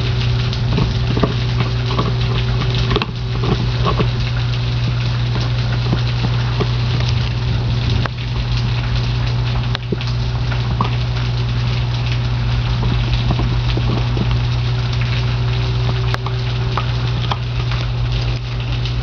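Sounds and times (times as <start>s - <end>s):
rain pattering: 0.0s - 19.0s
small drip ticks: 0.0s - 19.0s
steady low hum: 0.0s - 19.0s.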